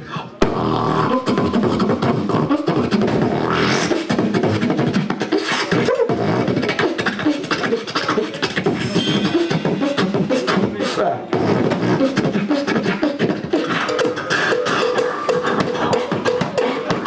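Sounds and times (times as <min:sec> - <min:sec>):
man beatboxing into a microphone: 0:00.0 - 0:17.0.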